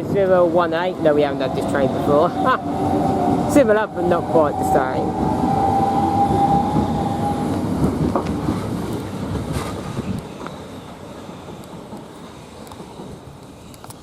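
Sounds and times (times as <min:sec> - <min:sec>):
train wheels rumbling over rails: 0:00.0 - 0:14.0.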